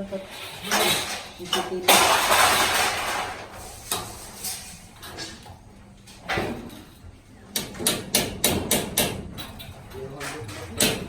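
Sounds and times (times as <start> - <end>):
construction knocks and clanks: 0.0 - 11.0.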